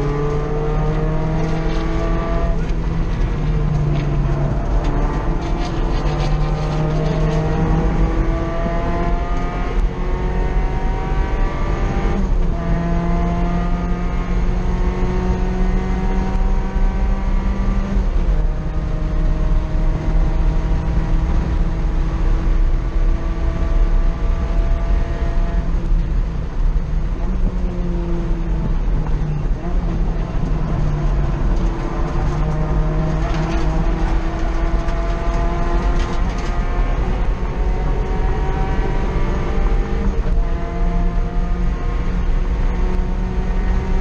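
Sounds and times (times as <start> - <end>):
car engine revving at full throttle: 0.0 - 44.0
road and wind rumble: 0.0 - 44.0.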